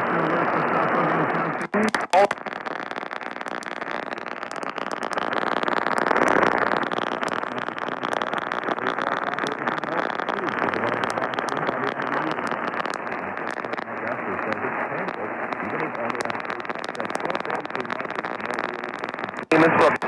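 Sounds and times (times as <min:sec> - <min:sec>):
radio static hiss with crackling: 0:00.0 - 0:20.0.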